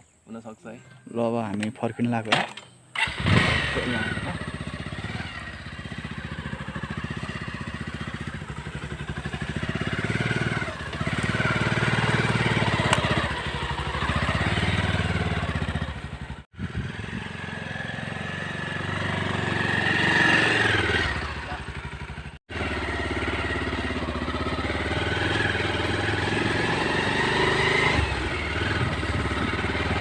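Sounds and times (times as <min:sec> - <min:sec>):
motorcycle engine running: 0:03.0 - 0:30.0.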